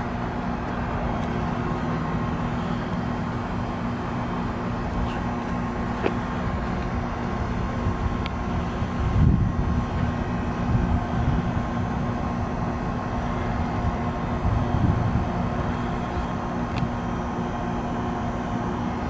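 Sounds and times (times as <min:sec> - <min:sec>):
heat pump compressor hum: 0:00.0 - 0:19.0.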